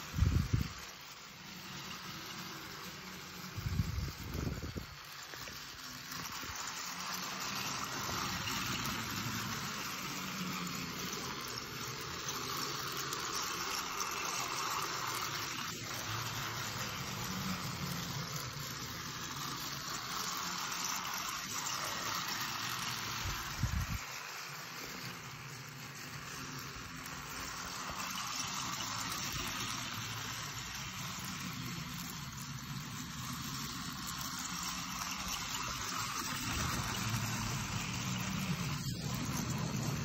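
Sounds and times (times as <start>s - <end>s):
toy train motor whir: 0.0s - 40.0s.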